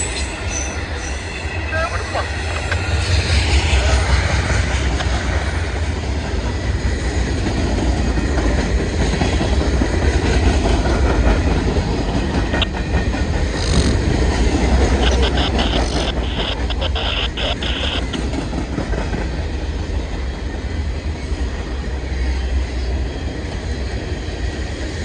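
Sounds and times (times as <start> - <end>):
freight train wheels rolling on rails: 0.0 - 25.0.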